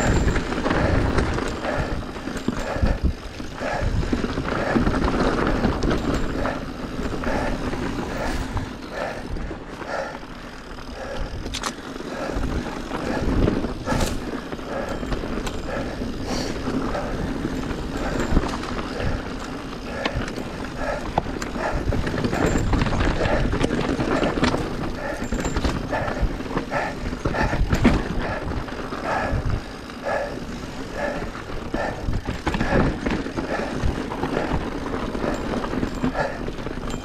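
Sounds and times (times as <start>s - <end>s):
bike rattling and clattering: 0.0s - 37.0s
bike tyres crunching over stones: 0.0s - 37.0s.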